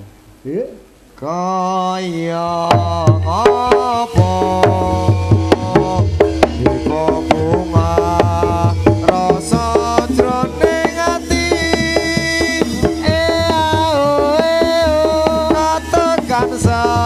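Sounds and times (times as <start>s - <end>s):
hand drum strokes: 2.7s - 17.0s
sliding melody line: 3.0s - 17.0s.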